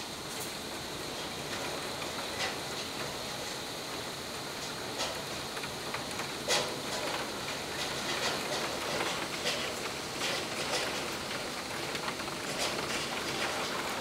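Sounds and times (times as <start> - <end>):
heavy rain falling: 0.0 - 14.0
sharp ticks of raindrops: 0.3 - 14.0.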